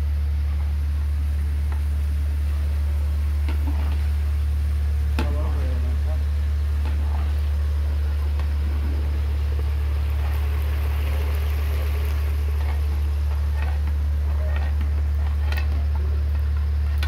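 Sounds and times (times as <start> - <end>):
loud low hum: 0.0 - 17.0.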